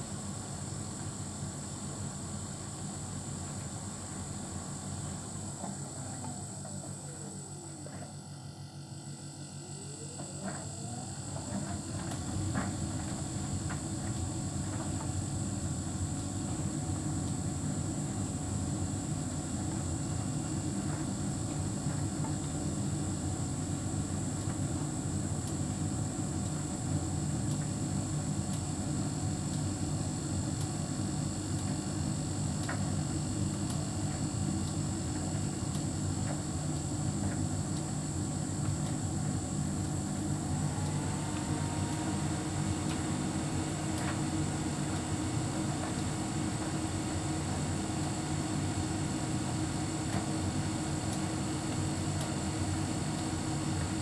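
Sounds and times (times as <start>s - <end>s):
tumble dryer humming: 1.2s - 54.0s.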